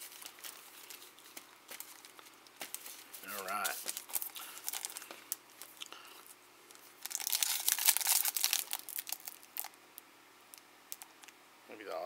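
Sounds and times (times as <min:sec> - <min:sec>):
plastic wrapper crinkling: 0:00.0 - 0:09.8, 0:10.5 - 0:11.3.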